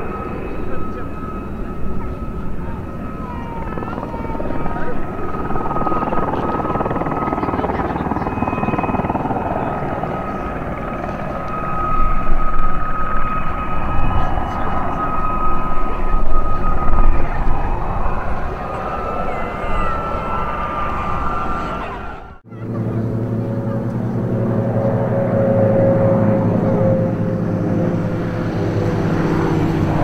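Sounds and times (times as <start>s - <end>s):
helicopters flying: 0.0s - 30.0s.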